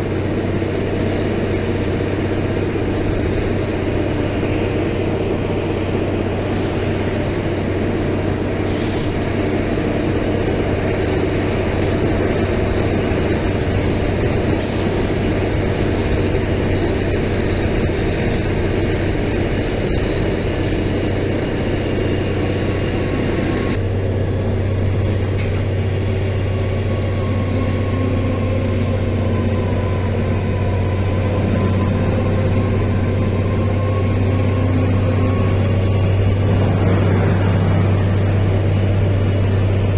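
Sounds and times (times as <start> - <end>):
heavy engines droning: 0.0 - 39.9.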